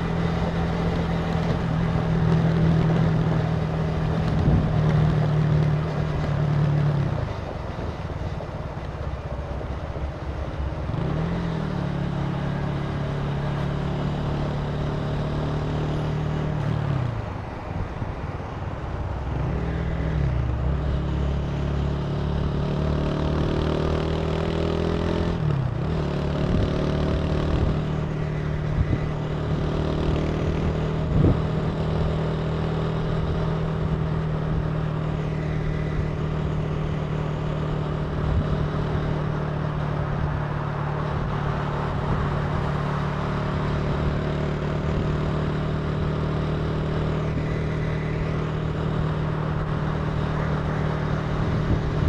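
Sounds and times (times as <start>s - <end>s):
motorcycle engine accelerating: 0.0s - 8.3s, 10.4s - 17.3s, 19.4s - 52.0s
wind and road rush: 0.0s - 52.0s.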